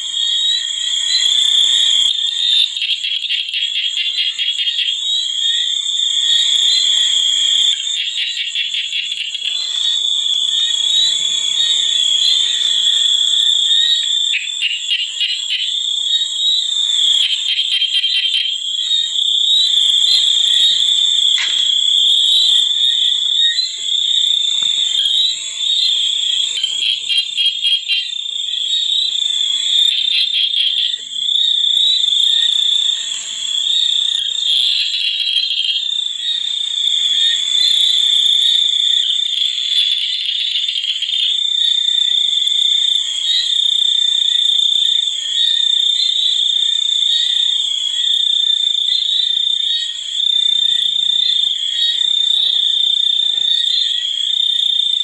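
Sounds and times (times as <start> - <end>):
insects and frogs chorus: 0.0 - 55.0.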